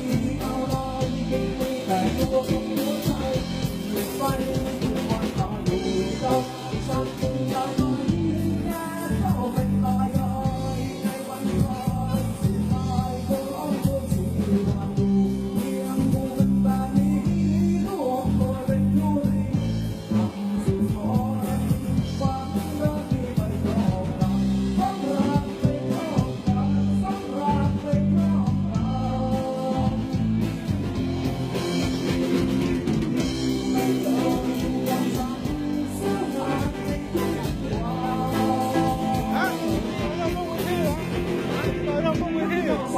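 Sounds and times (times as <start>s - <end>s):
electric guitar: 0.0s - 42.9s
person singing: 0.0s - 42.9s
steady bass line: 0.0s - 42.9s.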